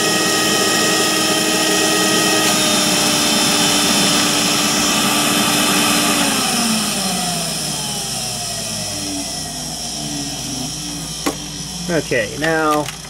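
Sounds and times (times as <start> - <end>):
vacuum cleaner motor running: 0.0 - 13.0.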